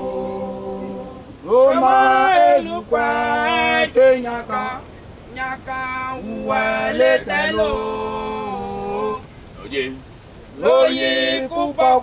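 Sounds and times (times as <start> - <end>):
congregation singing a hymn: 0.0 - 10.0, 10.6 - 12.0.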